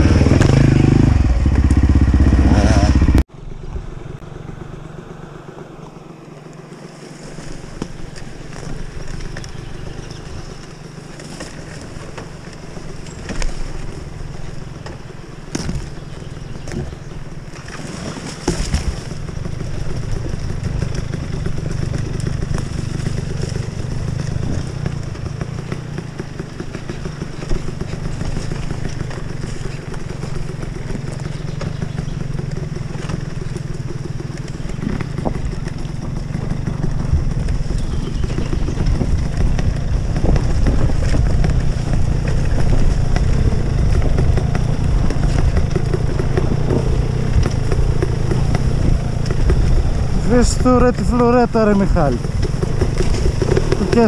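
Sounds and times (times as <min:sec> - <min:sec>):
motorcycle engine at low revs: 0:00.0 - 0:54.0.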